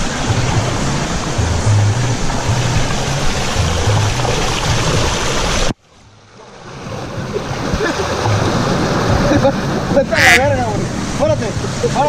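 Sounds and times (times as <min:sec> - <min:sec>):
background music: 0:00.0 - 0:12.0
flowing water rushing: 0:00.0 - 0:12.0.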